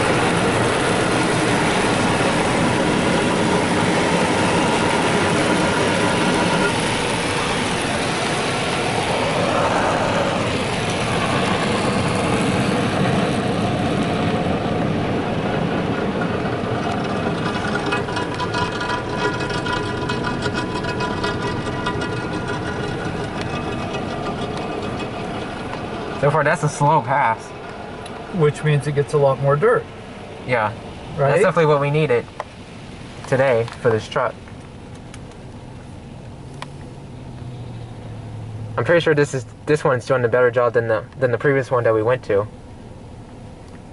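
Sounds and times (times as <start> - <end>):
car wash scrubbing and spraying: 0.0 - 37.2.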